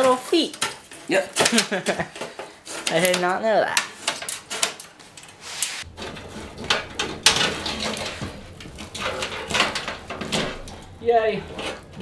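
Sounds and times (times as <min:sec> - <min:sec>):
knocks clicks and scraping: 0:00.0 - 0:12.0.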